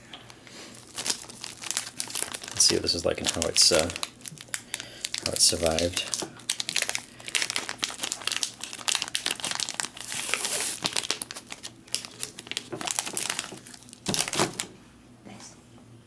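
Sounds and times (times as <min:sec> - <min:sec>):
chocolate wrapper crinkling: 0:00.7 - 0:14.7.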